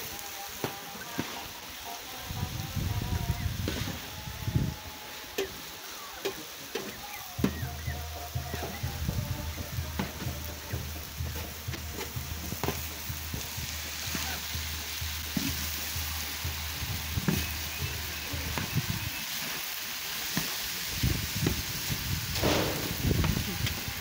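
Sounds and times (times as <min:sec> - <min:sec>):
meat sizzling on a griddle: 0:00.0 - 0:24.0.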